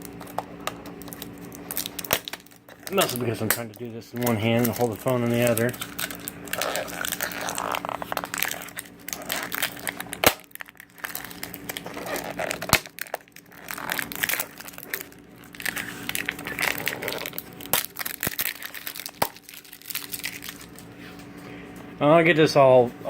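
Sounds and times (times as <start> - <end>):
packaging crinkling: 0.0 - 21.5.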